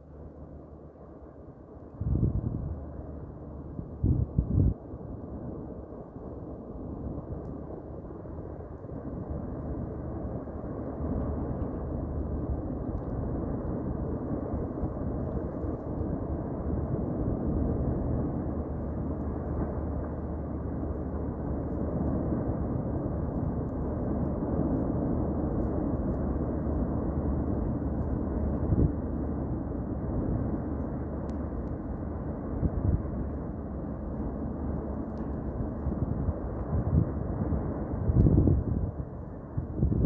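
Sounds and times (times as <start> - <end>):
volcanic vent roaring: 0.0 - 40.0.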